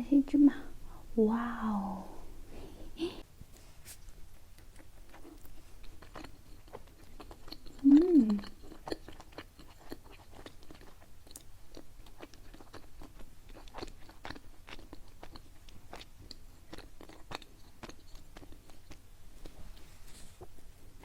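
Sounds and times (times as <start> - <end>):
chewing sticky food: 3.9 - 21.0.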